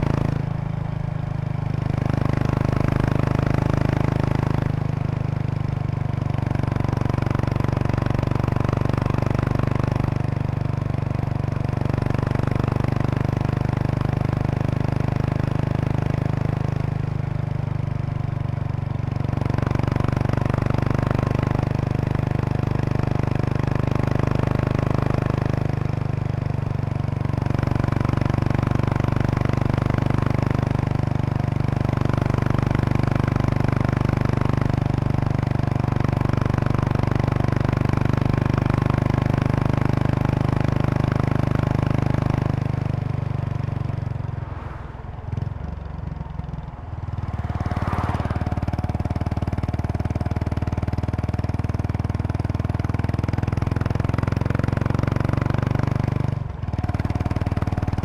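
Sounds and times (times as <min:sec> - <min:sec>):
motorcycle exhaust: 0:00.0 - 0:58.0.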